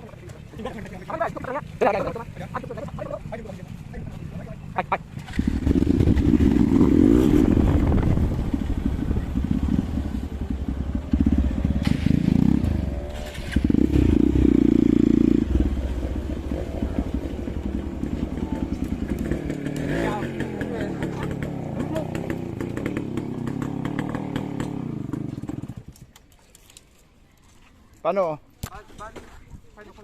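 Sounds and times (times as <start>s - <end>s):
motorcycle engine revving: 0.7s - 26.0s.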